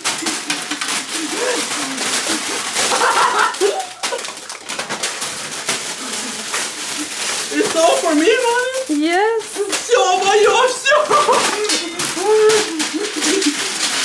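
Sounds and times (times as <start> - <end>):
crackling and rustling: 0.0 - 14.0.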